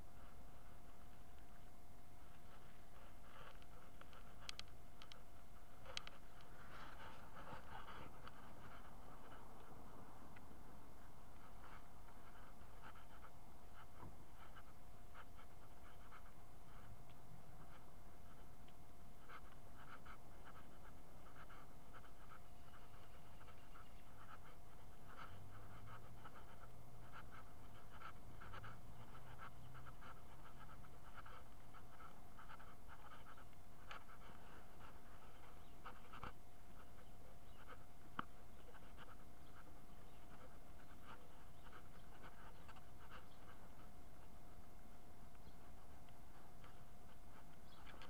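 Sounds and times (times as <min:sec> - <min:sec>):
dog panting: 0:00.1 - 0:48.0.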